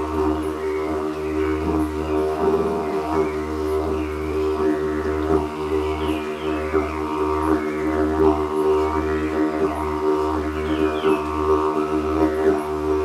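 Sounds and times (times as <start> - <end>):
didgeridoos droning: 0.0 - 13.0.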